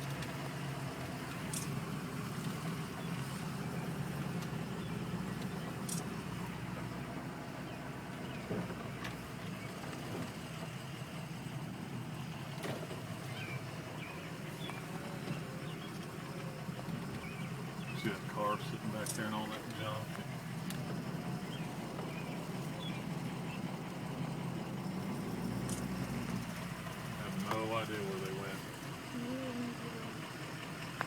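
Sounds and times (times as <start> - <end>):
car engine hum and road noise: 0.0 - 31.0.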